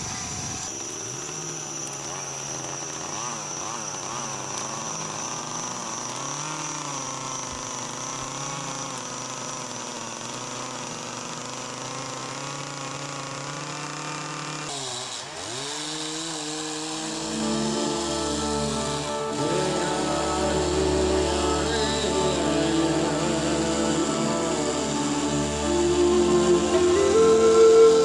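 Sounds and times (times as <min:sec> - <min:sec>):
chainsaw cutting wood: 0:00.1 - 0:28.0.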